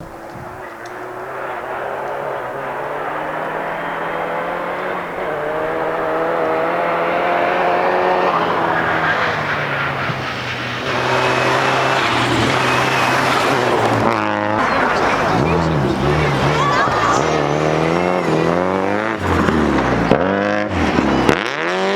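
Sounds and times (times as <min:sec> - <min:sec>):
car engine at full throttle: 0:00.0 - 0:21.9.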